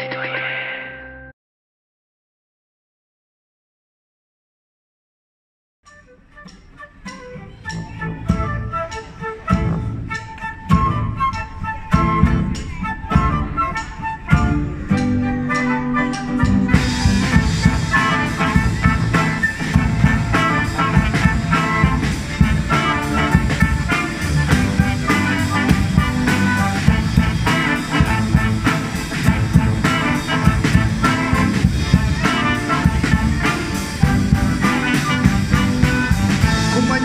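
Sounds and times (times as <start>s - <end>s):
street band playing lively tune: 6.4s - 37.0s.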